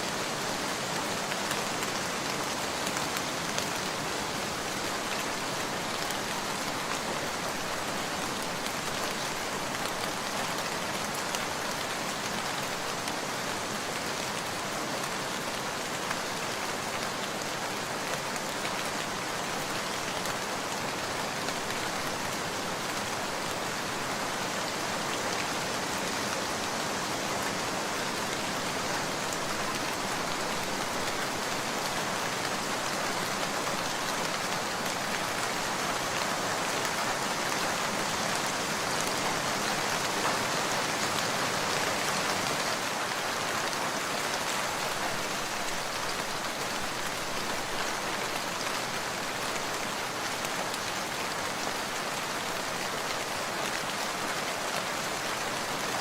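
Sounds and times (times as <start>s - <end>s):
dense rainfall: 0.0s - 56.0s.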